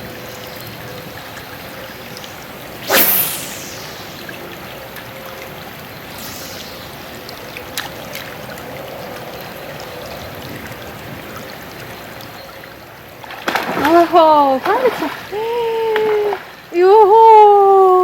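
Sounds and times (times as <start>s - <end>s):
river water running: 0.0s - 17.7s.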